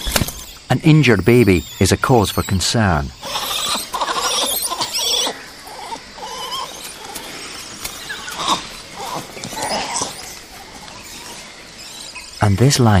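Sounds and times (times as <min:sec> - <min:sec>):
monkeys calling with shrill squeals: 0:00.0 - 0:13.0.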